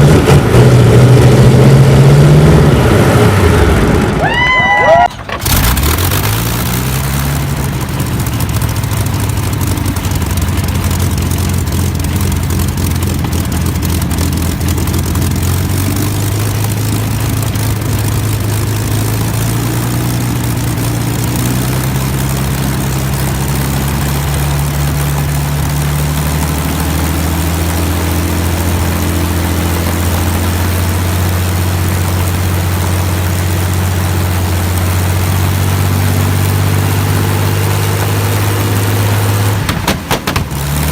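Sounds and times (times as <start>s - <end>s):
propeller aircraft engine idling: 2.6s - 40.9s.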